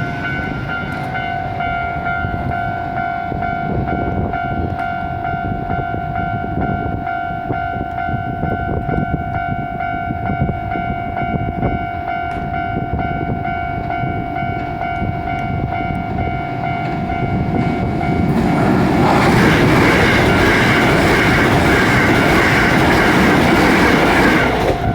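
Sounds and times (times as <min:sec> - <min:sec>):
electric train passing: 0:00.0 - 0:24.9
railroad crossing bell ringing: 0:00.0 - 0:24.9.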